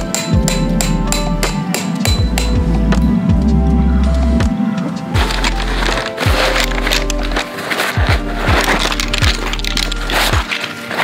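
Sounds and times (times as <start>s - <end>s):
background music with deep bass: 0.0s - 11.0s.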